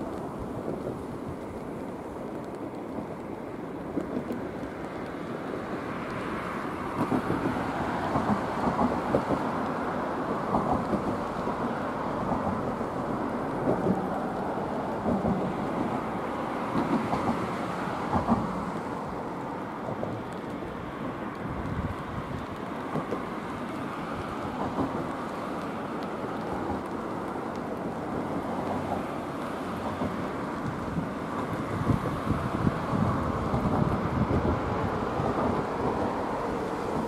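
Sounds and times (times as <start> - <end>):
wind rushing on microphone: 0.0 - 37.0.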